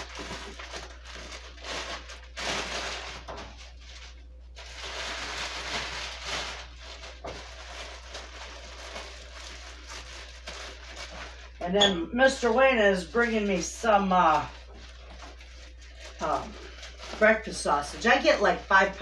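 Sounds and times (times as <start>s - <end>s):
plastic bags rustling: 0.0s - 19.0s.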